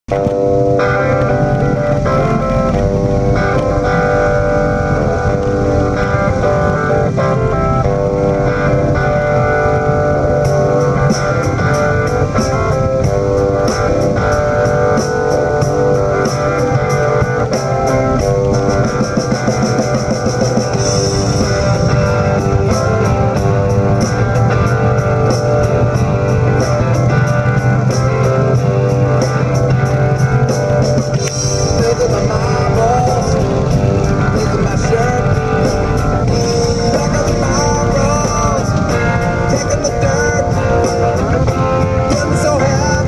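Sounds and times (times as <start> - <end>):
electric guitar: 0.0 - 43.0
drum kit beat: 0.1 - 43.0.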